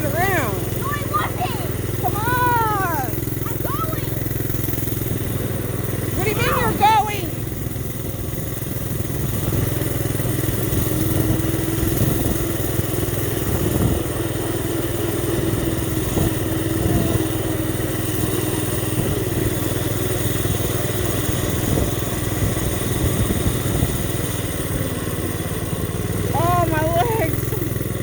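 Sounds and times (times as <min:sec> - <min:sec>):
high engine whine: 0:00.0 - 0:28.0
small motorcycle engine running: 0:00.0 - 0:28.0.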